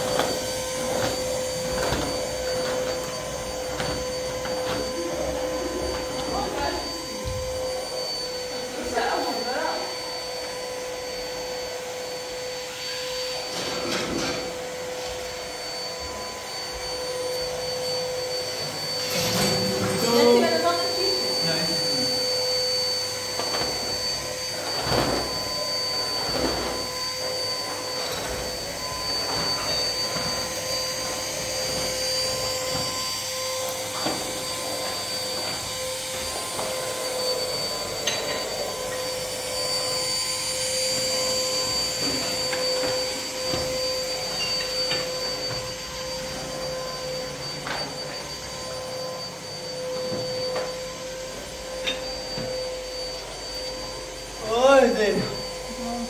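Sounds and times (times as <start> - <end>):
machine whine: 0.0 - 56.0.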